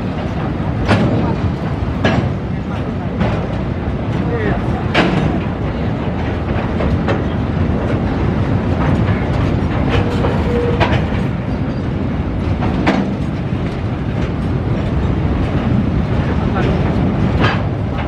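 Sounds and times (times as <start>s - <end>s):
train wheels rumbling on rails: 0.0s - 18.0s
wheels clicking over rail joints: 0.0s - 18.0s.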